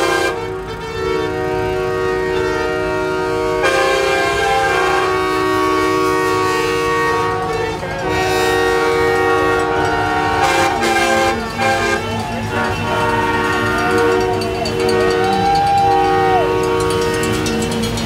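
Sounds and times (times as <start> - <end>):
truck air horns blaring: 0.0 - 18.0.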